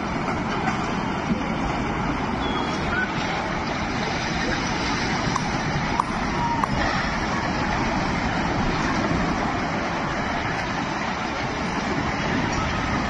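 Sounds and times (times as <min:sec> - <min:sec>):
steady rushing roar: 0:00.0 - 0:13.0.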